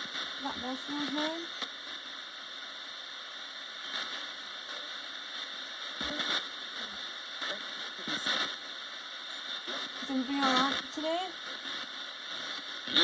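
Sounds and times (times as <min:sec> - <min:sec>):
snatches of radio sound: 0:00.0 - 0:02.1, 0:03.8 - 0:13.0
radio static hiss: 0:00.0 - 0:13.0.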